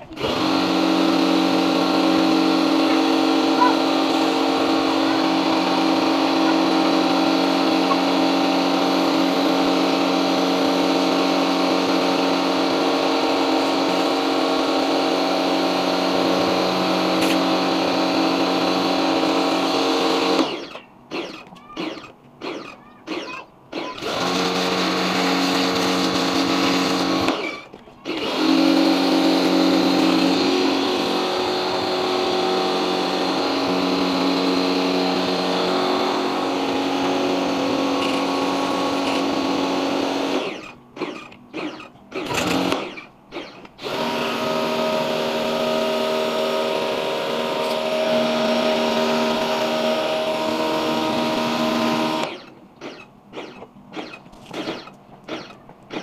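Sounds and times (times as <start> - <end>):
pressure washer motor whine: 0.0 - 22.7, 23.7 - 56.0.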